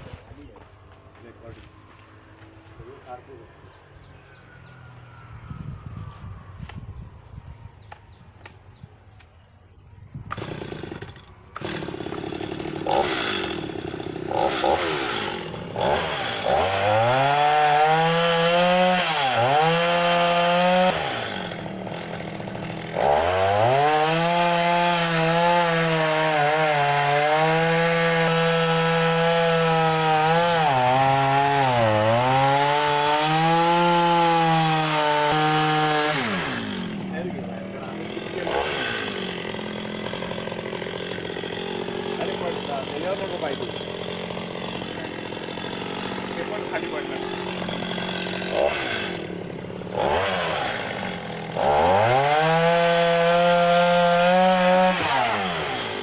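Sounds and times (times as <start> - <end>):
chainsaw cutting wood: 10.2 - 56.0.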